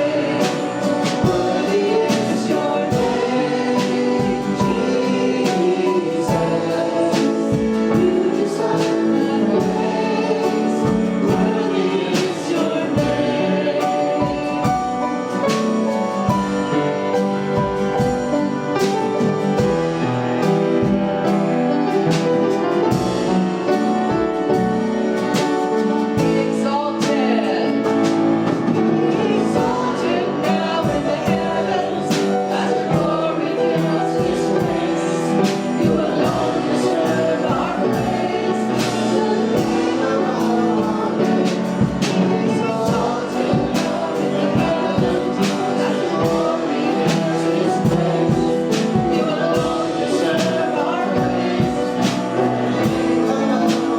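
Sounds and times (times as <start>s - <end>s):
keyboard: 0.0s - 53.9s
voices singing together: 0.0s - 53.9s.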